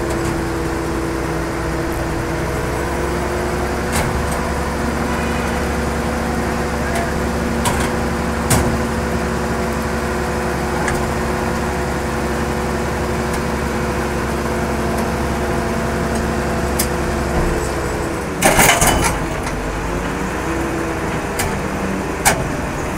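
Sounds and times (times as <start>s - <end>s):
heavy vehicle engine idling: 0.0s - 22.9s.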